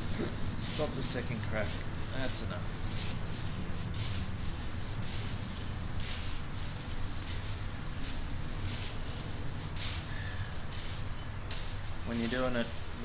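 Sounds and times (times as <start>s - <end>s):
electric fan humming: 0.0s - 13.0s
spoon stirring beans in metal sieve: 0.0s - 13.0s.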